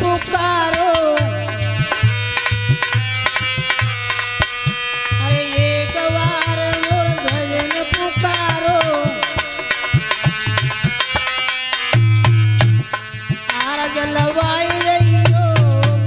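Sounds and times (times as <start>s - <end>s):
hand drum rhythm: 0.0s - 16.0s
held drone note: 0.0s - 16.0s.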